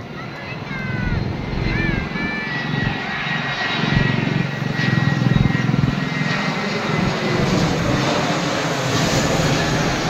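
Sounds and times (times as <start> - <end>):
airplane engines rumbling overhead: 0.0 - 10.0.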